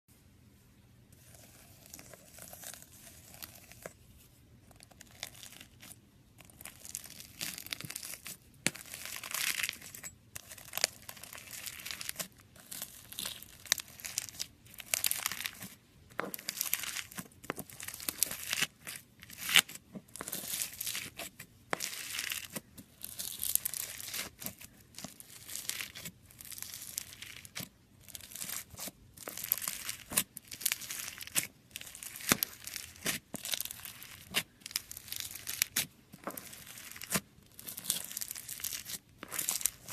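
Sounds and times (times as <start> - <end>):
slime crackling and popping: 4.8 - 39.9.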